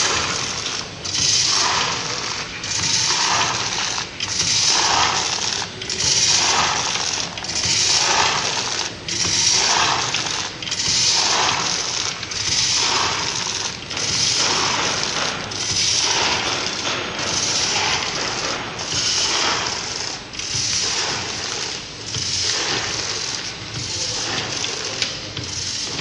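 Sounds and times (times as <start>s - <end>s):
packaging machine hissing rush: 0.0s - 26.0s.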